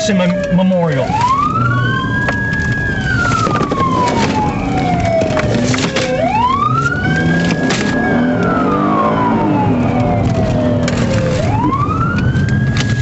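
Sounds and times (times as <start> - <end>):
car engine and road noise: 0.0 - 13.0
police siren wailing: 0.0 - 13.0.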